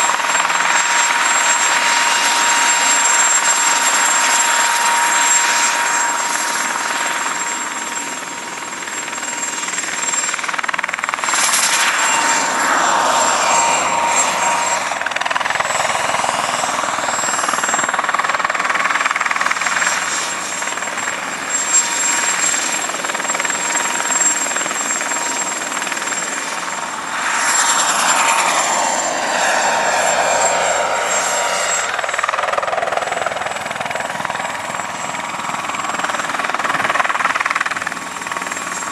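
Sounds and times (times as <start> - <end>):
helicopter engine and rotor whine: 0.0 - 38.9.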